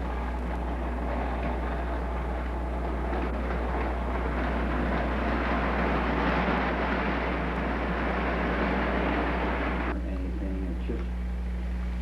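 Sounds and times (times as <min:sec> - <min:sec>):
toy trains rattling on track: 0:00.0 - 0:09.9.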